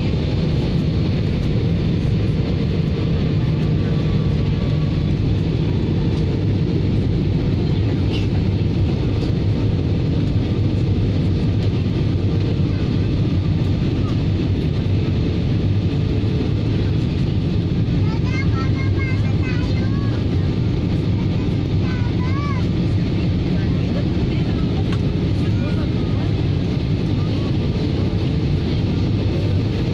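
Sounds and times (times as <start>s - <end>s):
airliner cabin engine drone: 0.0s - 29.9s.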